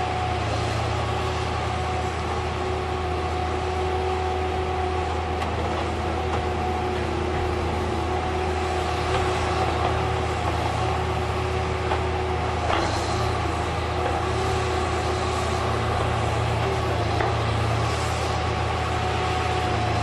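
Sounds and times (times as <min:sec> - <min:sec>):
heavy diesel machinery humming: 0:00.0 - 0:20.0.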